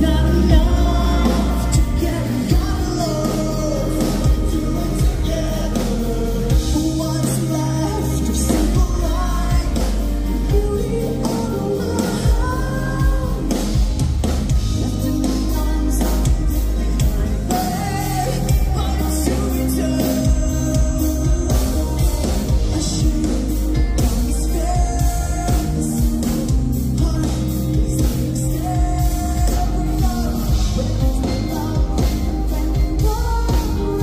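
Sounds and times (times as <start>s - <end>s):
distorted guitars: 0.0s - 34.0s
metal band playing live: 0.0s - 34.0s
person singing: 0.0s - 34.0s.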